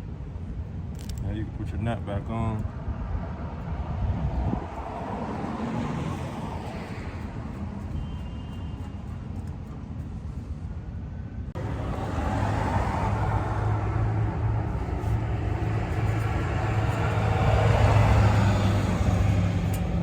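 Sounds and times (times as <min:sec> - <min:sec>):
traffic noise: 0:00.0 - 0:20.0
low engine hum: 0:00.2 - 0:20.0.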